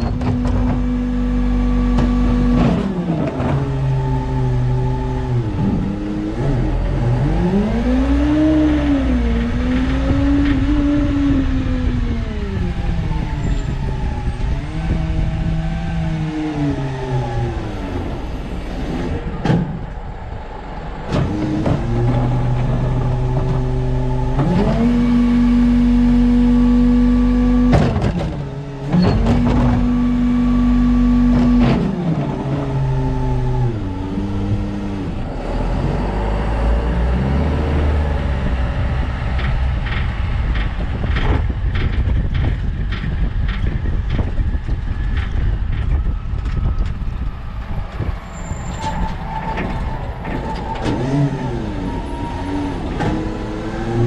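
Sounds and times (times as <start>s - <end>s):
garbage truck engine revving: 0.0s - 54.0s.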